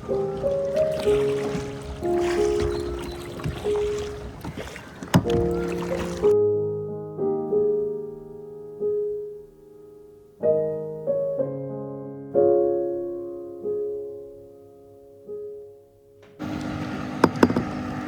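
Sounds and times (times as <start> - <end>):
slow solo piano: 0.0 - 18.0.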